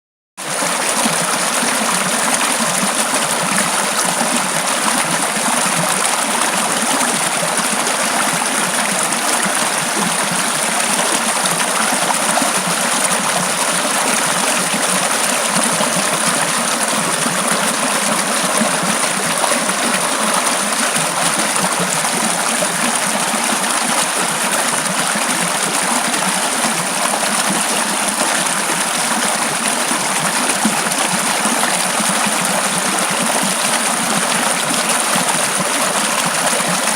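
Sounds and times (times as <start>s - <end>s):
stream rushing: 0.5s - 36.9s.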